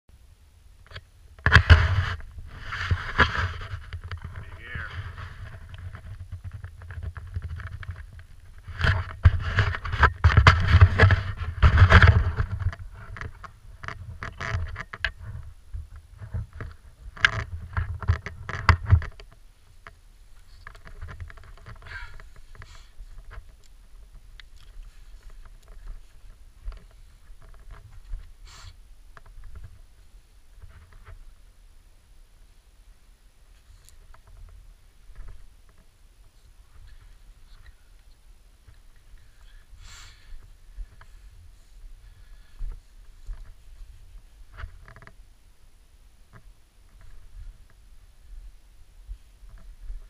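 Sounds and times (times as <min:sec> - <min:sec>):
small clicks and rustles: 0:00.8 - 0:31.5, 0:33.5 - 0:45.3, 0:46.3 - 0:48.4, 0:49.0 - 0:50.0.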